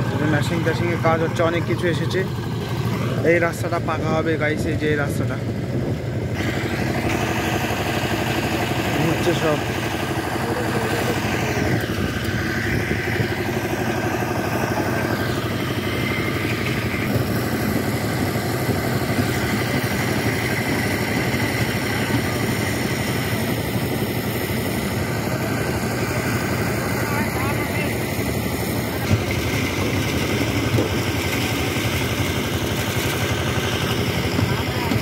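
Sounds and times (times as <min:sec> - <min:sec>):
machine engine running steadily: 0:00.0 - 0:35.0.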